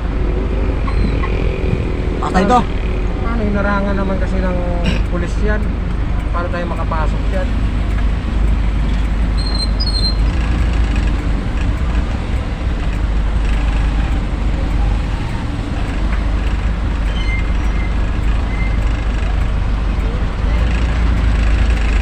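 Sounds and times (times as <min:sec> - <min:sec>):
road noise: 0:00.0 - 0:22.0
truck engine rumbling: 0:00.0 - 0:22.0.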